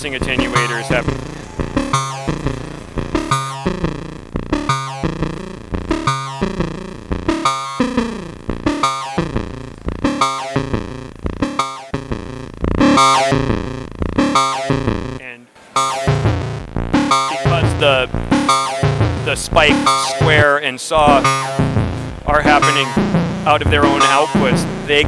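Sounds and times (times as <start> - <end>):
synthesizer playing short decaying notes: 0.0 - 15.2, 15.8 - 25.0.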